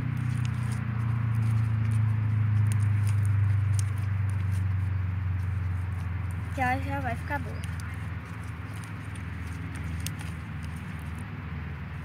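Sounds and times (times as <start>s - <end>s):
sticky clicks of kneaded slime: 0.0s - 11.3s.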